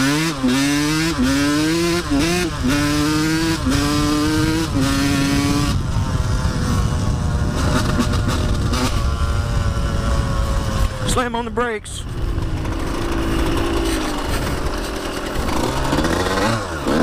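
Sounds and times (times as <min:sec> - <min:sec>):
dirt bike engine shifting gears: 0:00.0 - 0:17.0.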